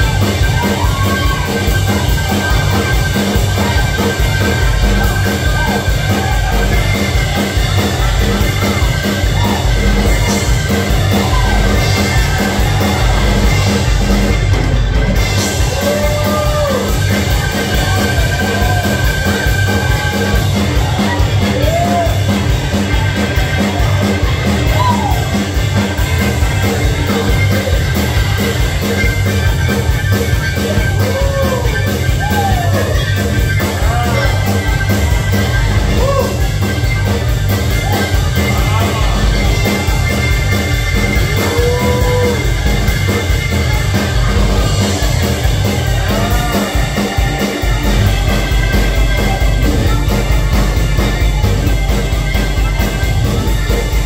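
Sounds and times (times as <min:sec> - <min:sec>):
live gospel band music: 0:00.0 - 0:54.0.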